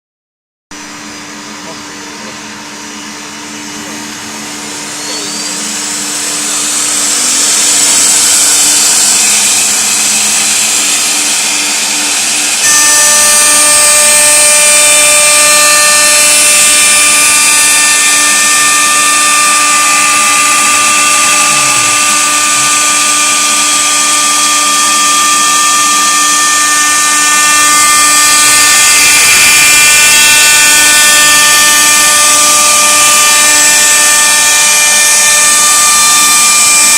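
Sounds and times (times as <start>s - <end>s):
router spindle high whine: 0.8s - 36.9s.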